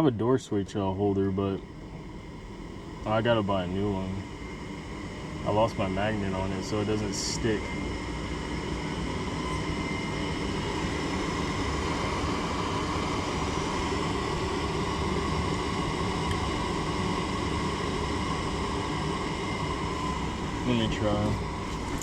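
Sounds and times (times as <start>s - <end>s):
furnace motor drone: 0.0s - 22.0s
whining tones: 0.0s - 22.0s.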